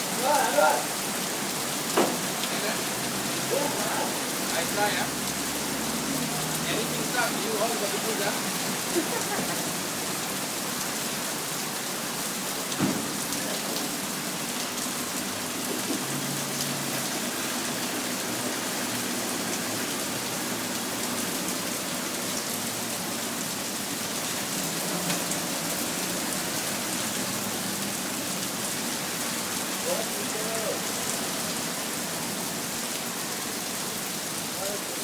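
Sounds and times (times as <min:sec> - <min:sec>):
heavy rain pouring: 0:00.0 - 0:35.0.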